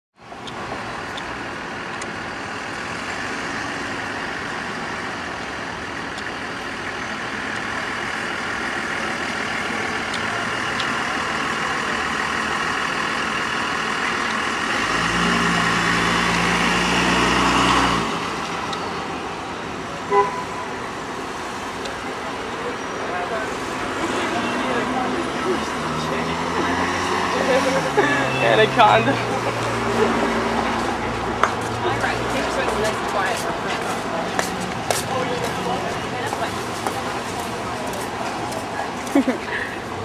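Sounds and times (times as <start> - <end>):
passing cars hum: 0.2 - 40.0.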